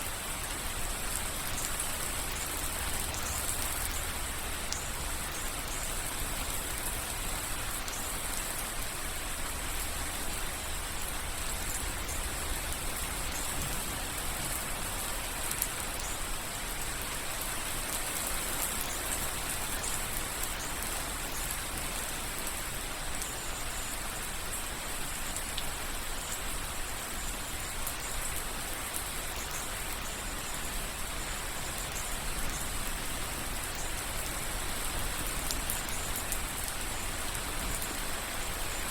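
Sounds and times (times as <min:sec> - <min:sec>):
rain falling: 0:00.0 - 0:38.9
rainwater dripping: 0:00.2 - 0:26.5, 0:27.4 - 0:38.9.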